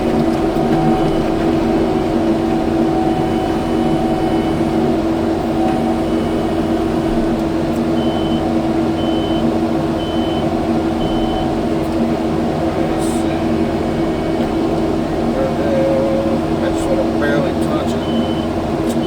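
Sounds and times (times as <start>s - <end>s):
diesel engine running: 0.0s - 19.0s
reversing alarm beeping: 0.1s - 11.6s, 13.1s - 19.0s.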